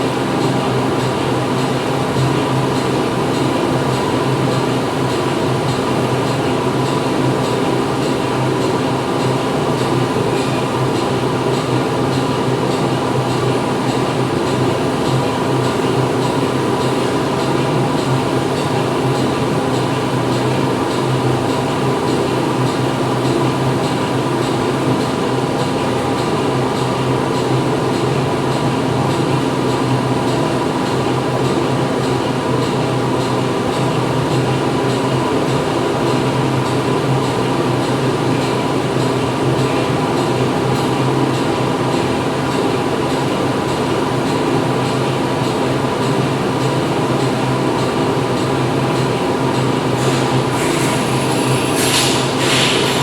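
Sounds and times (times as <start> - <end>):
factory machinery droning: 0.0 - 53.0.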